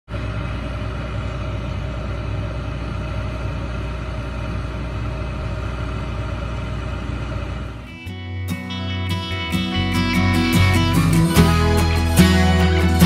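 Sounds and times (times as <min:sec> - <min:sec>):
combine diesel engine drone: 0:00.1 - 0:13.0.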